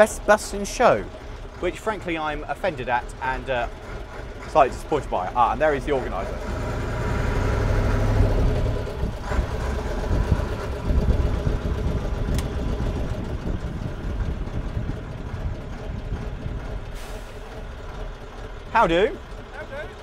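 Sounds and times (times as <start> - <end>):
fire engine running: 0.0 - 20.0.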